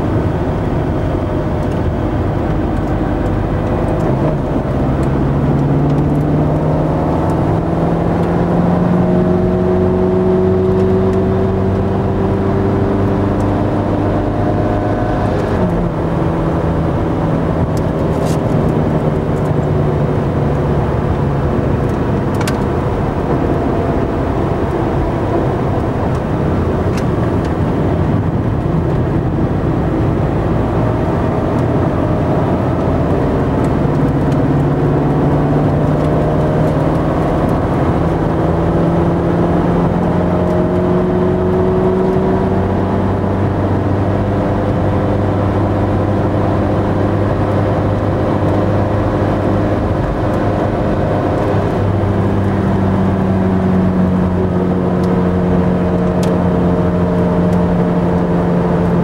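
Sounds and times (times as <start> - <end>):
car engine accelerating in cabin: 0.0 - 59.0.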